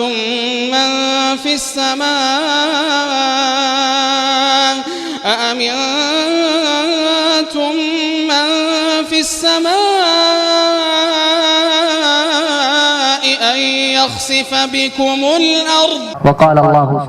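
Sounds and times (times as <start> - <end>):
man reciting in melodic chant: 0.0 - 17.0.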